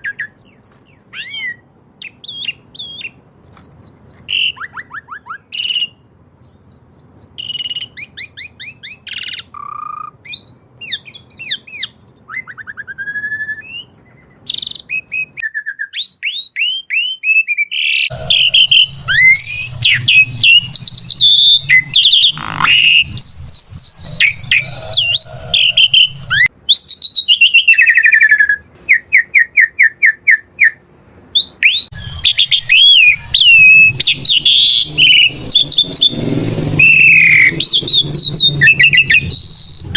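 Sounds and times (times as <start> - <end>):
bird singing varied song: 0.0 - 30.8, 31.4 - 39.9.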